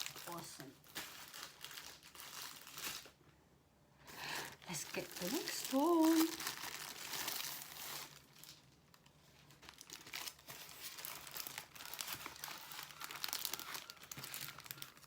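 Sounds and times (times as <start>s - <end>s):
plastic packaging crinkling: 0.0s - 3.2s, 4.0s - 15.0s.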